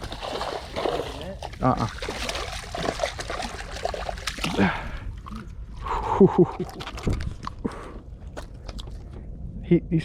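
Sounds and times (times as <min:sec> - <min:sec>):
water splashing and sloshing: 0:00.0 - 0:09.3.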